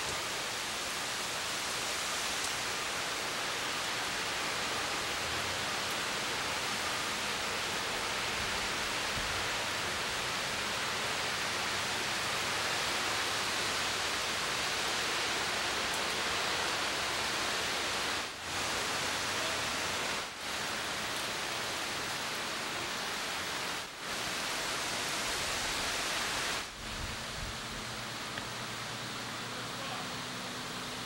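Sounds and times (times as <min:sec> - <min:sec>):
heavy rain hiss: 0:00.0 - 0:31.0.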